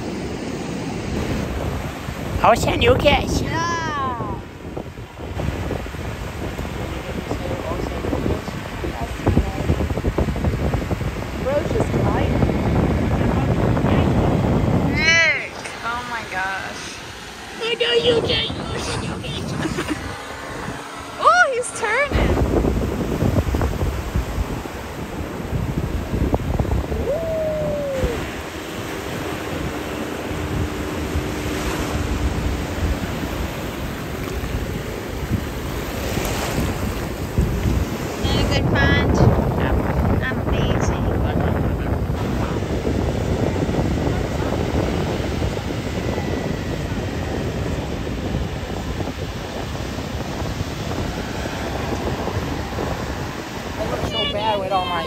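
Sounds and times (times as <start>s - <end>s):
paramotor propeller engine: 0.0s - 55.0s
waves breaking on sand: 0.0s - 55.0s
wind buffeting microphone: 0.0s - 55.0s.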